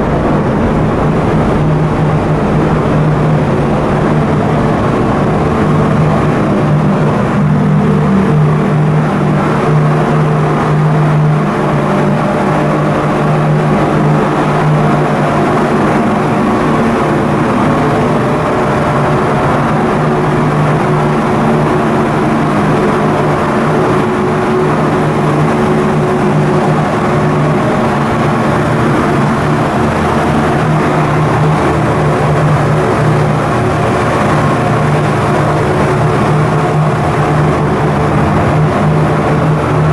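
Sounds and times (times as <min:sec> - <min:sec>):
ship diesel engine droning: 0:00.0 - 0:39.9.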